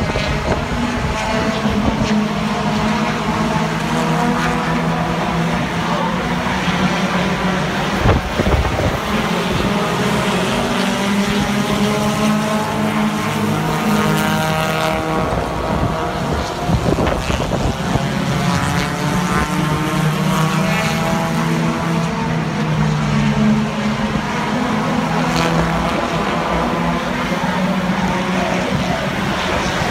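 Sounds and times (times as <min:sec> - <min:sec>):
race car engines: 0:00.0 - 0:29.9.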